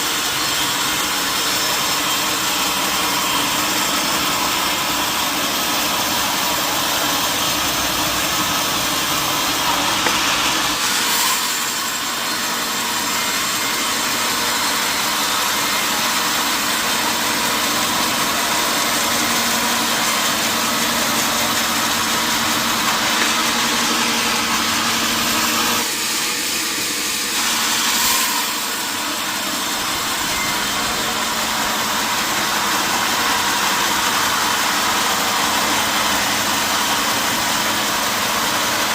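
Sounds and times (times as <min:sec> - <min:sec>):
sawmill machinery whirring: 0:00.0 - 0:38.9.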